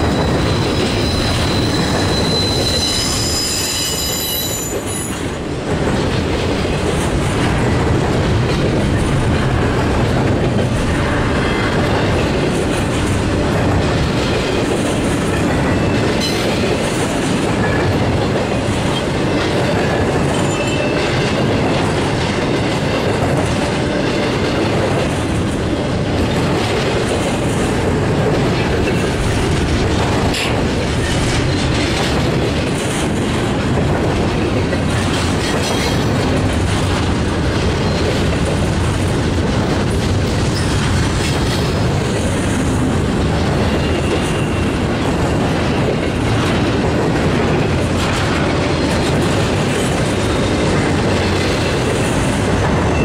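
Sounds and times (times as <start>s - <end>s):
steel wheels rumbling on rail: 0.0s - 53.0s
clacking over rail joints: 3.9s - 53.0s.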